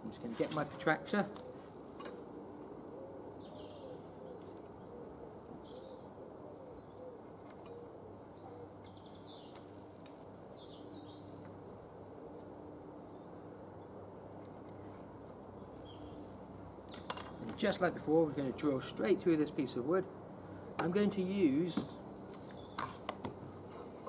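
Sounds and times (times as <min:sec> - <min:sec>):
small birds chirping: 0:03.0 - 0:14.0, 0:14.7 - 0:19.4, 0:20.4 - 0:24.0.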